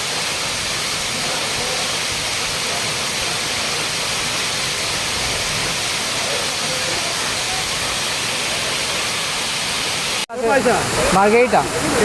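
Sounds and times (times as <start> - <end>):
waterfall rushing and splashing: 0.0 - 12.0
faint distant voices: 1.0 - 9.5, 10.3 - 12.0.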